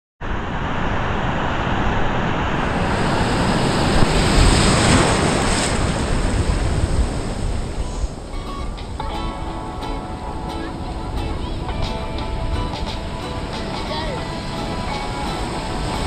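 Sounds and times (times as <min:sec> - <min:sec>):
ocean surf breaking: 0:00.2 - 0:16.0
wind on microphone: 0:00.2 - 0:16.0.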